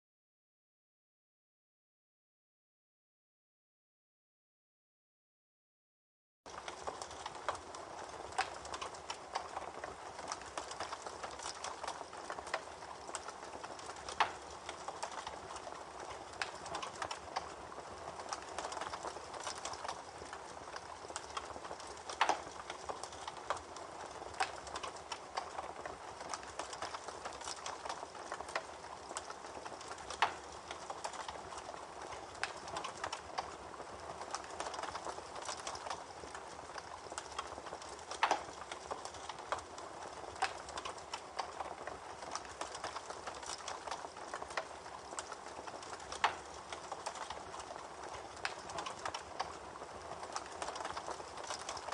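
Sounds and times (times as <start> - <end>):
wood fire crackling: 6.5 - 51.9.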